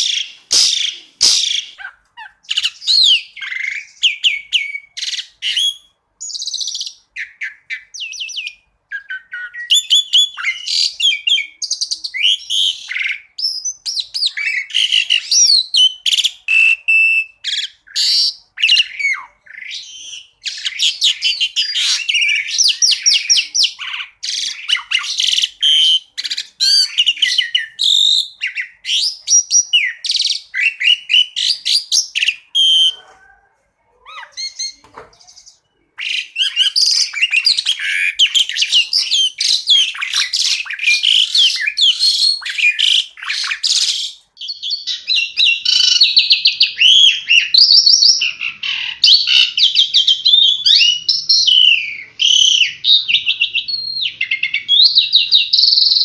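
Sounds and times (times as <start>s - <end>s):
songbird chirping and whistling: 0.0s - 33.4s, 34.0s - 56.0s.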